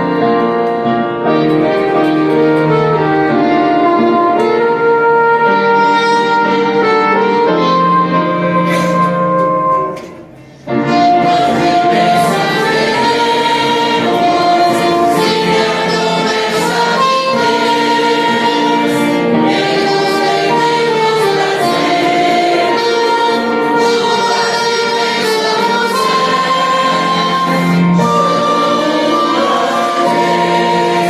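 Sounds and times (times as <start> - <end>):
instrumental accompaniment: 0.0 - 31.0
choir singing a hymn: 1.4 - 31.0.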